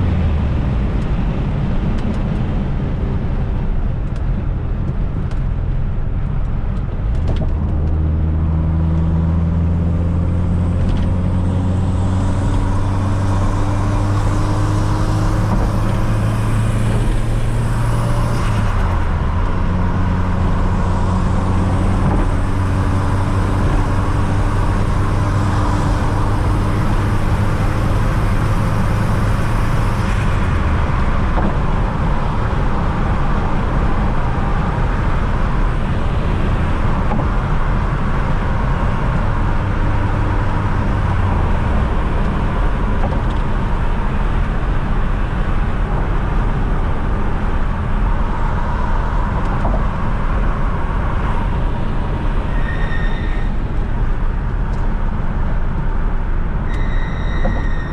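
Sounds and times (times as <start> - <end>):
tyre and road rumble: 0.0 - 57.9.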